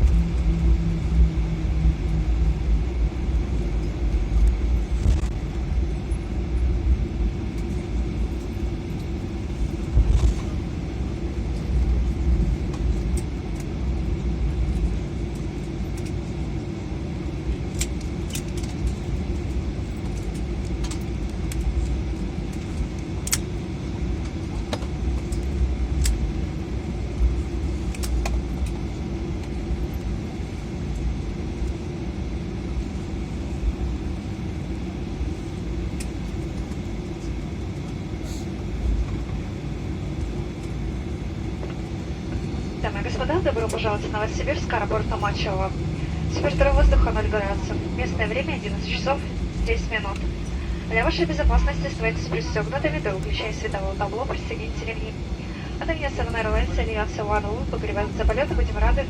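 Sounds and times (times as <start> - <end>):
aircraft cabin low rumble: 0.0 - 59.0.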